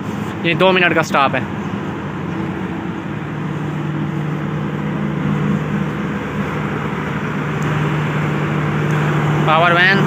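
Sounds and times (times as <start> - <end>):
diesel generator droning: 0.0 - 10.0.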